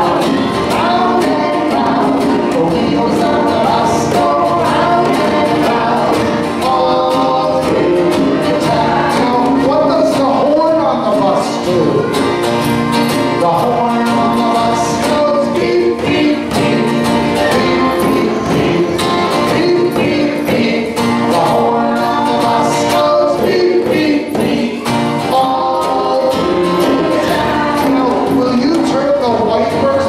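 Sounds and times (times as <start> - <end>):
hand drums beating: 0.0 - 11.3, 13.0 - 29.9
acoustic guitars: 0.0 - 30.0
people singing: 0.0 - 30.0.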